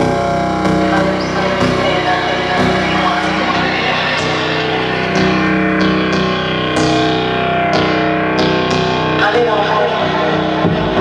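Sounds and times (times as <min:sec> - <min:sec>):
distorted synthesizer chords: 0:00.0 - 0:11.0.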